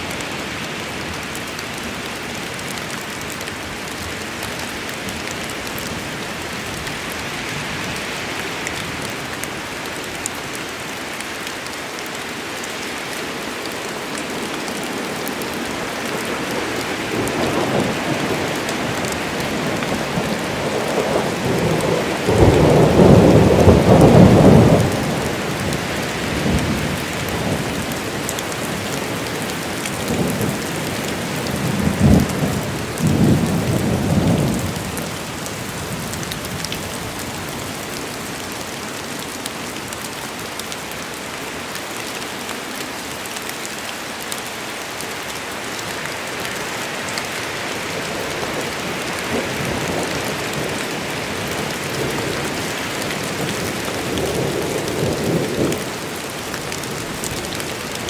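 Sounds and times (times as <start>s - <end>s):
rain in a forest: 0.0s - 58.0s.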